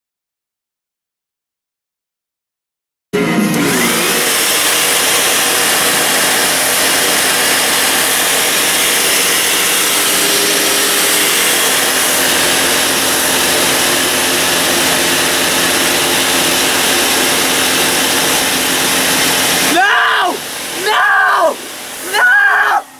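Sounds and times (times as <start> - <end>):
vacuum cleaner running: 3.2 - 22.9.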